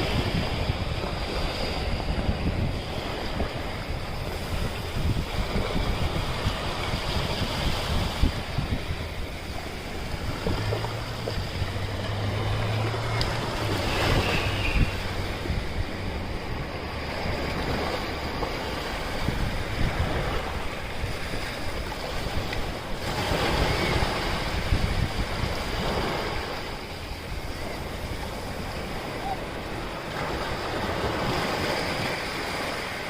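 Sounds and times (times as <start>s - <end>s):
ocean surf washing onto beach: 0.0s - 33.0s
wind rumbling on microphone: 0.0s - 33.0s.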